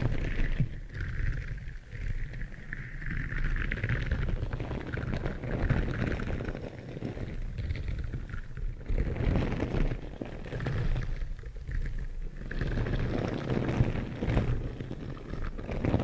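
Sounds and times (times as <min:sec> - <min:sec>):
crackling rustling noise: 0:00.0 - 0:16.0.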